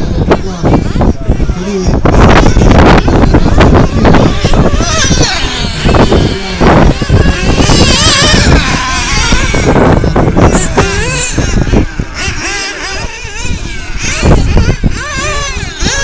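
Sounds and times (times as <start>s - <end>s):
rc car engines buzzing: 0.0s - 16.0s.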